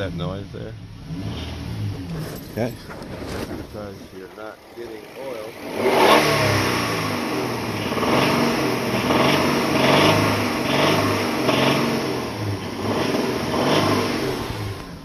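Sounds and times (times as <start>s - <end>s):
engine revving with valve rattle: 0.0s - 3.1s, 3.8s - 15.0s.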